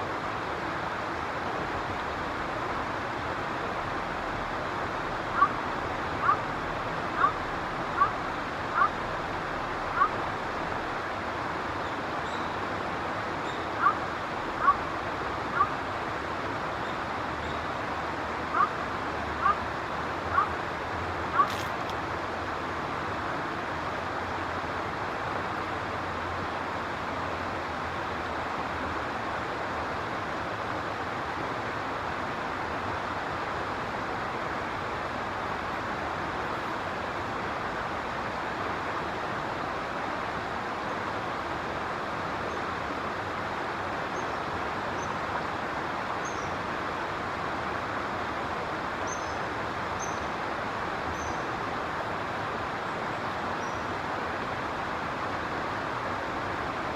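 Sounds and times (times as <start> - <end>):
steady rushing background noise: 0.0 - 56.9.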